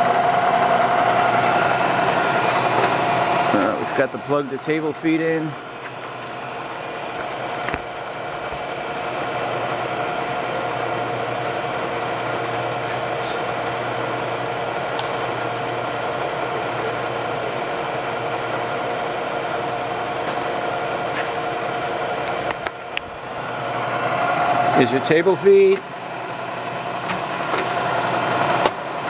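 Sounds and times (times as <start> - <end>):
milling machine humming: 0.0 - 29.0.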